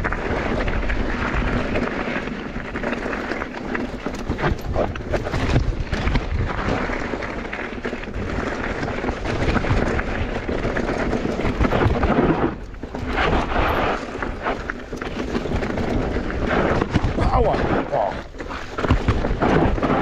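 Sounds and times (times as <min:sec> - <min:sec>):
bike rattling and knocking: 0:00.0 - 0:20.0
tyres rumbling on dirt and gravel: 0:00.0 - 0:20.0.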